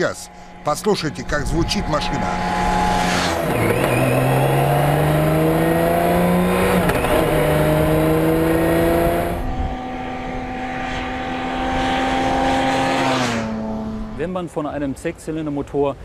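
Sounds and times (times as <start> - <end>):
motorcycle engine accelerating hard: 0.0 - 14.2
steady engine note: 0.0 - 14.3.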